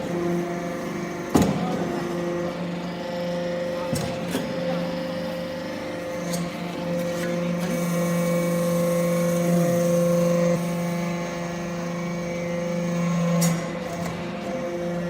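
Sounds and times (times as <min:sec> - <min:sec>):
hydraulic press motor and pump hum: 0:00.0 - 0:15.0.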